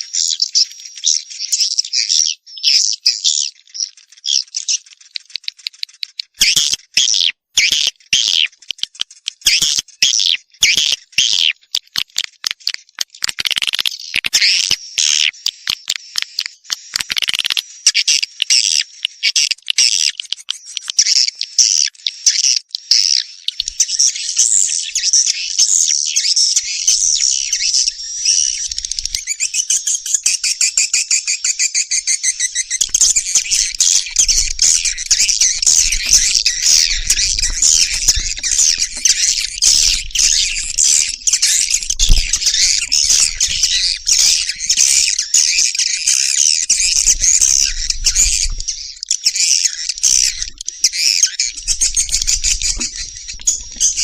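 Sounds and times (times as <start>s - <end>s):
recorded swiftlet twittering calls: 0.0s - 54.0s.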